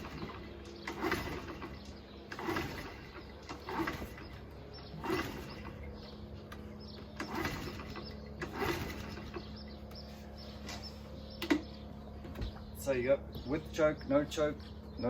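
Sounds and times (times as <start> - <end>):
engine turning over: 0.0 - 12.7.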